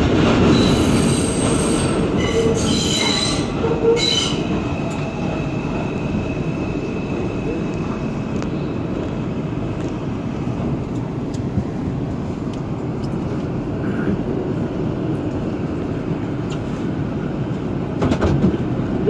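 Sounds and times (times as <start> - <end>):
subway train rumbling to a stop: 0.0 - 19.0.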